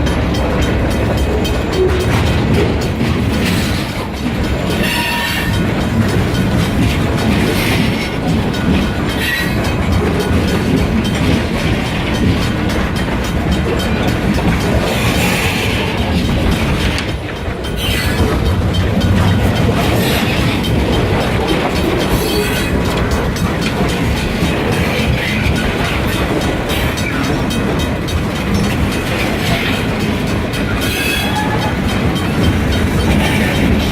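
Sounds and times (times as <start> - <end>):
freight train rumbling past: 0.0 - 33.9
train wheels clacking on rails: 0.0 - 33.9.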